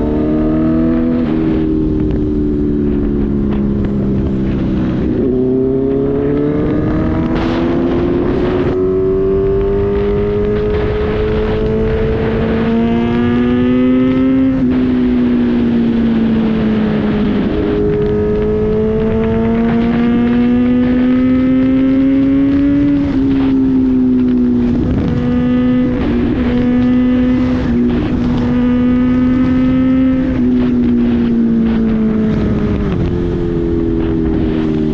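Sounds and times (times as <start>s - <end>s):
low wind rumble: 0.0s - 34.9s
motorcycle engine running hard: 0.0s - 34.9s.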